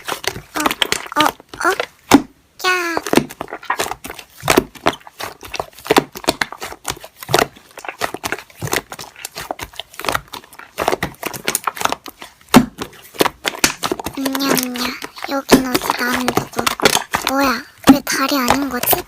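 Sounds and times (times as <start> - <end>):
slime squished by hand: 0.0 - 19.0.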